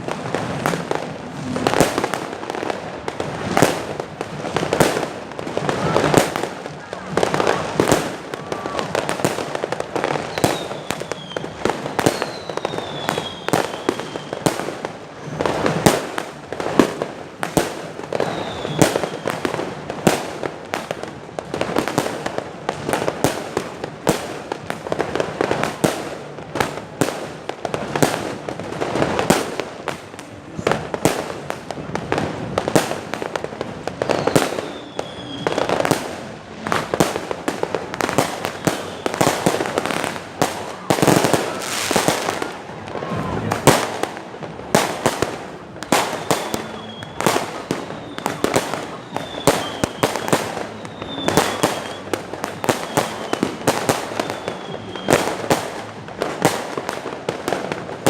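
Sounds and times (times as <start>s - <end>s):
fireworks falling whistles: 0.0s - 24.3s, 32.2s - 44.1s, 44.8s - 56.6s
fireworks bangs and crackles: 0.0s - 58.0s.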